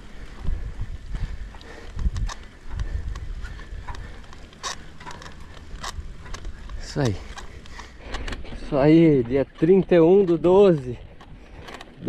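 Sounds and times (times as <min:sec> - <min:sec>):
bike tyres rumbling in sand: 0:00.0 - 0:12.0
tyre and drivetrain clicks: 0:00.0 - 0:12.0.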